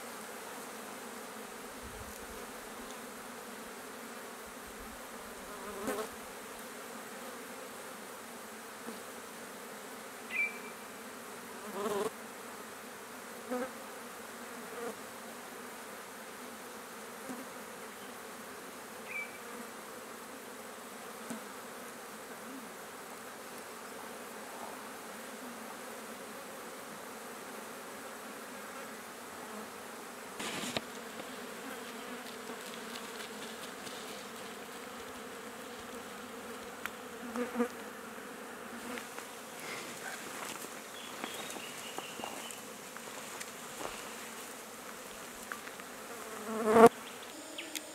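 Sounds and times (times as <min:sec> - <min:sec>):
flies buzzing: 0:00.0 - 0:47.9.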